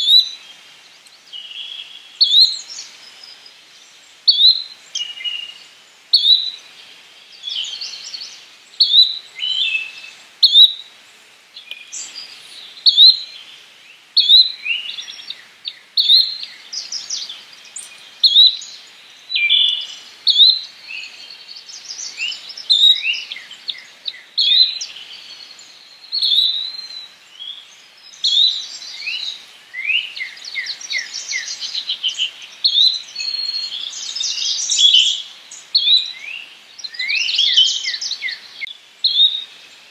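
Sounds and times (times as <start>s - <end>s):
other birdsong: 0.0s - 39.9s.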